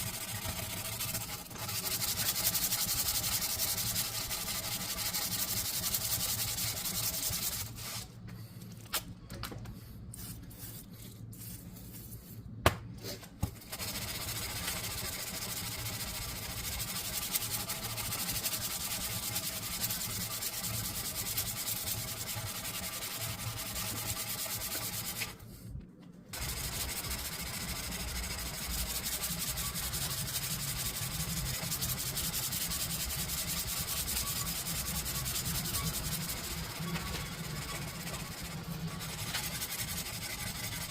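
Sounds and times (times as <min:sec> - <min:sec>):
abrasive sanding: 0:00.0 - 0:08.1, 0:13.7 - 0:25.4, 0:26.4 - 0:40.9.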